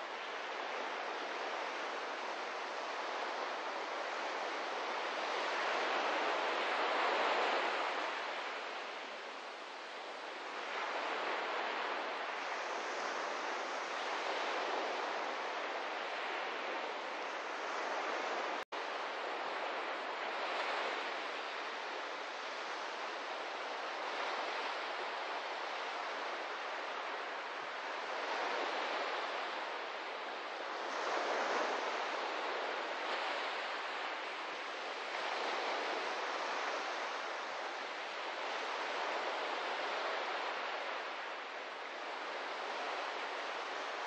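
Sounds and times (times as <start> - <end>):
small waves on sandy beach: 0.0 - 44.0.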